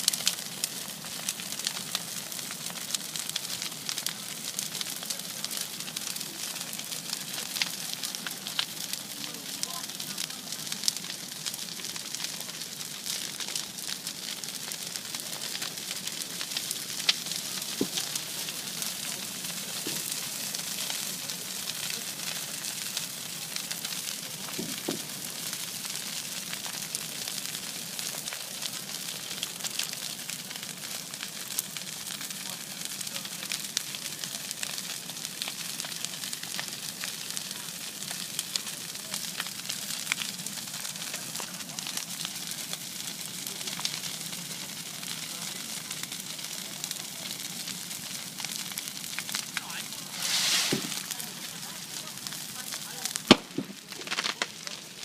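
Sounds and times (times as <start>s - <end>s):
bonfire crackling and hissing: 0.0s - 55.0s.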